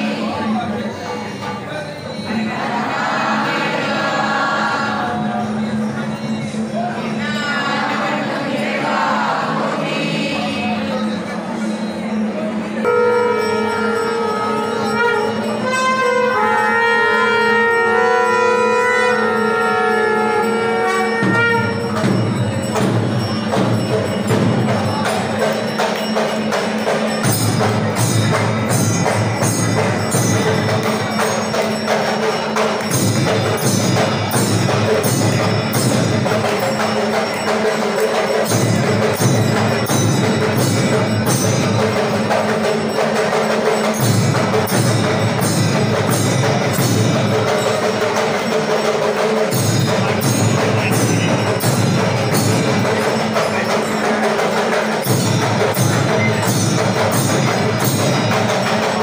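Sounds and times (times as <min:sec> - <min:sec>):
ringing bells: 0:00.0 - 0:59.0
temple drums: 0:11.1 - 0:59.0.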